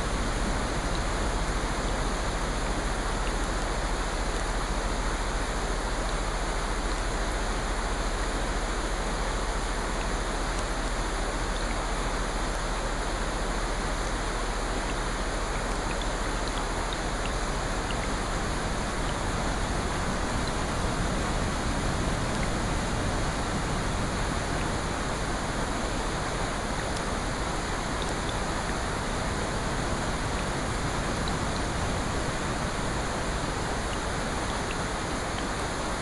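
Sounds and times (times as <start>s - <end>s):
steady rainfall: 0.0s - 36.0s.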